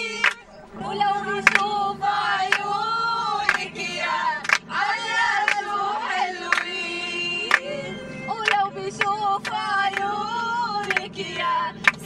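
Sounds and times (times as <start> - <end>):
group singing folk song: 0.0 - 12.0.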